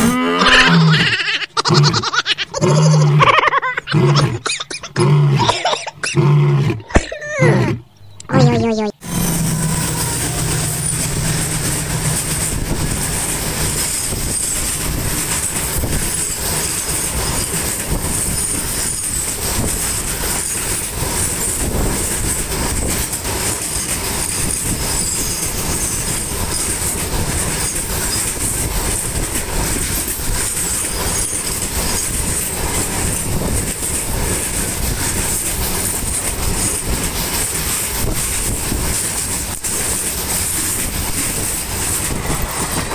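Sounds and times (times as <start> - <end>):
freight train wheels rumbling: 0.0 - 8.3, 9.0 - 42.9.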